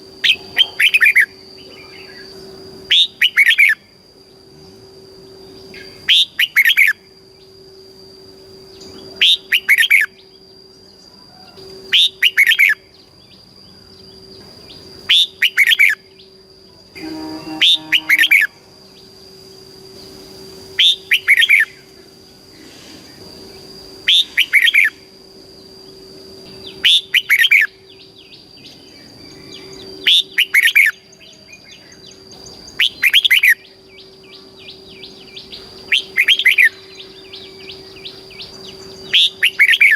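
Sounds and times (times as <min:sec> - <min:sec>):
bulbul singing: 0:00.0 - 0:22.7, 0:23.4 - 0:39.9
faint high whine: 0:00.0 - 0:39.9.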